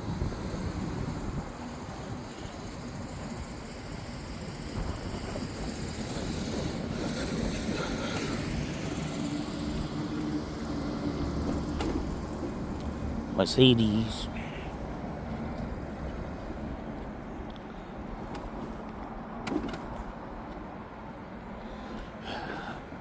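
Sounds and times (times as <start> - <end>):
low engine hum: 0.0 - 23.0
vehicles driving past: 0.0 - 23.0.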